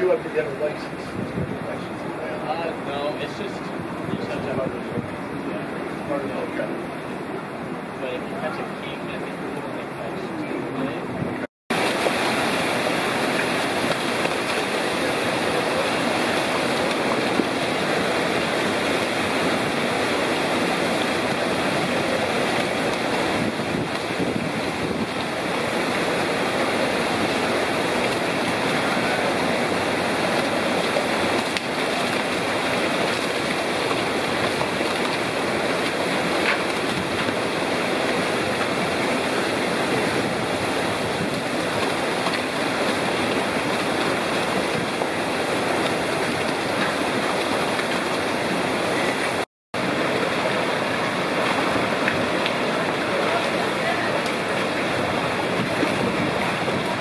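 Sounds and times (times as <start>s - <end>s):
churning water rushing: 0.0s - 57.0s.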